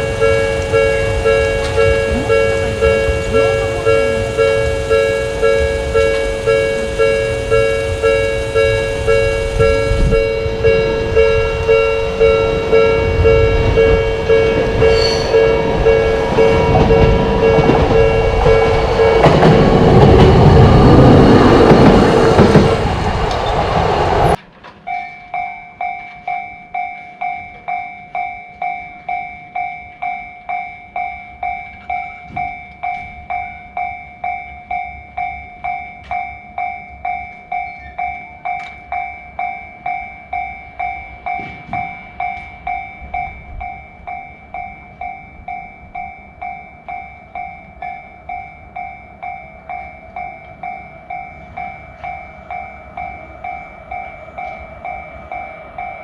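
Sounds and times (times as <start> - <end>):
level crossing bell ringing: 0.0 - 22.7, 24.2 - 56.0
higher thin crossing bell: 0.0 - 56.0
tram passing: 0.0 - 56.0.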